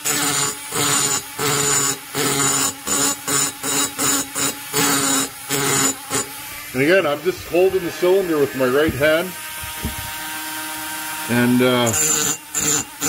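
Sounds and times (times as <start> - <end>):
burr grinding metal: 0.0 - 13.0
rotary grinder motor hum: 0.0 - 13.0.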